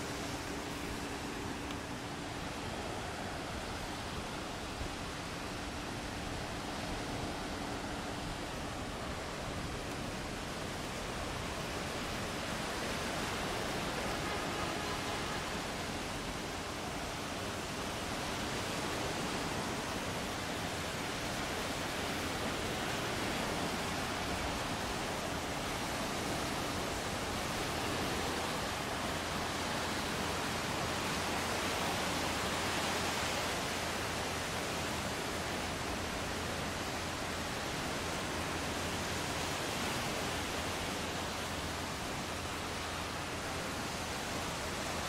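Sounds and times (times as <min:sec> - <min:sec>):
sea surf washing onto beach: 0:00.0 - 0:45.0.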